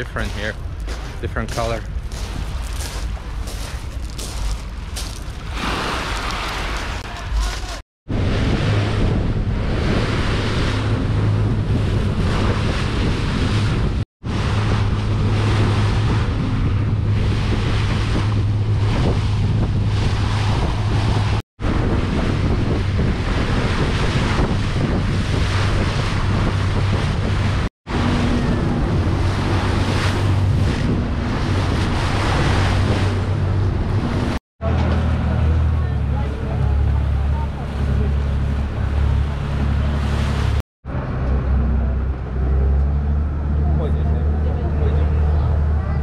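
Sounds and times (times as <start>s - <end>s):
wind on microphone: 0.0s - 43.3s
boat engine humming: 0.0s - 46.0s
water along hull: 0.0s - 46.0s.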